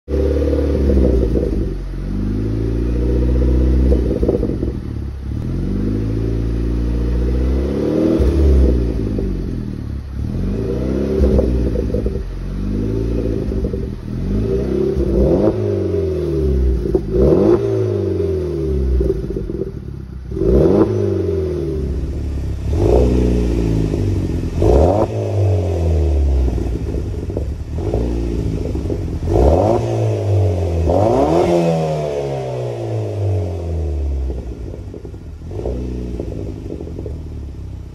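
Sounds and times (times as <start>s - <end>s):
car engine revving: 0.0s - 37.9s.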